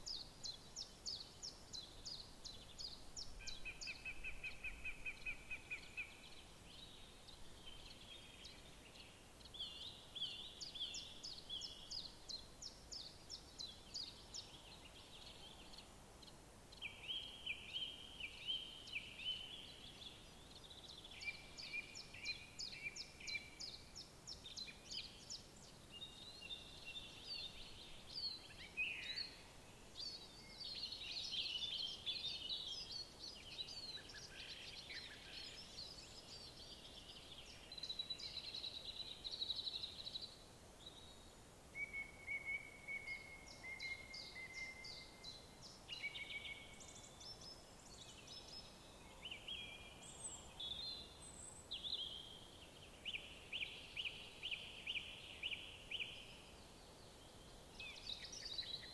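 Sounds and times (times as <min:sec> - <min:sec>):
faint steady hiss: 0:00.0 - 0:58.9
songbird chorus: 0:00.0 - 0:58.9.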